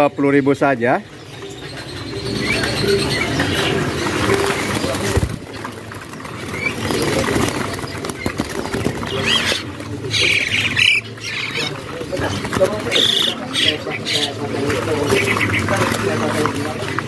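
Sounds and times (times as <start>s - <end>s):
bird chirps: 0.0s - 5.4s, 6.2s - 16.3s
background voices: 0.8s - 17.0s
birds flapping wings in cage: 1.7s - 17.0s.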